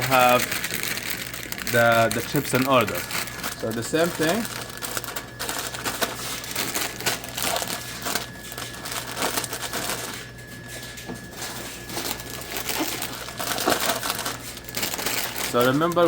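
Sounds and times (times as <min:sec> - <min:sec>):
chip bags crinkling: 0:00.0 - 0:16.0.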